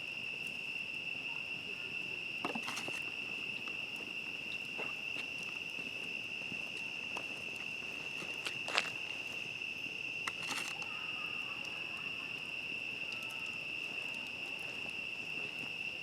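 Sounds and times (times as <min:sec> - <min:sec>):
crickets chirping: 0:00.0 - 0:16.0
campfire popping and crackling: 0:00.1 - 0:16.0.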